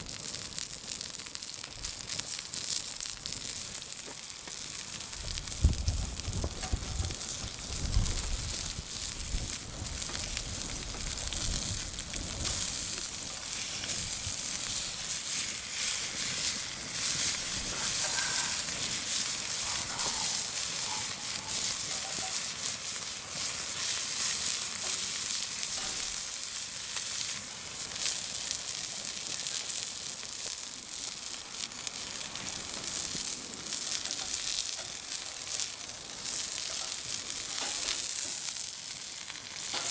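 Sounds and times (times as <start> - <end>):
meat sizzling with pops and crackles: 0.0 - 39.9.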